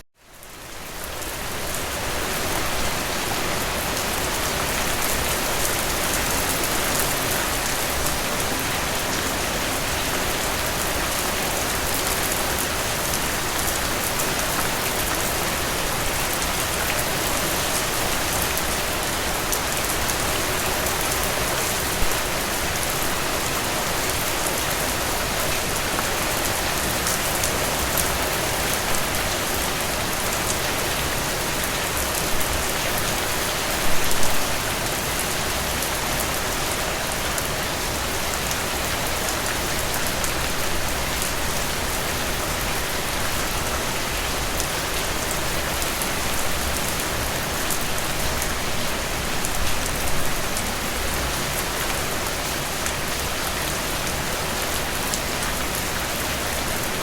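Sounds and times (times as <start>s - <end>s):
rain falling through trees: 0.2s - 57.0s.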